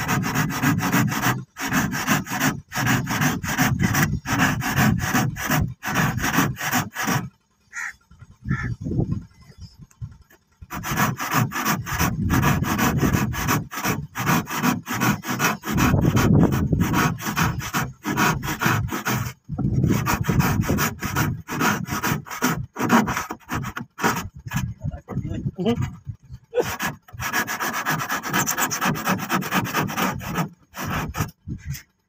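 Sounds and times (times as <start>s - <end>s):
hand saw cutting wood: 0.0s - 9.1s, 9.9s - 32.0s.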